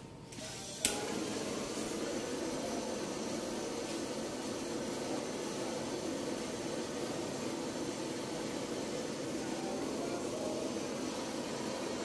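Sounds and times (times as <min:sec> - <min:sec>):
gas torch flame hissing: 0:00.3 - 0:12.0.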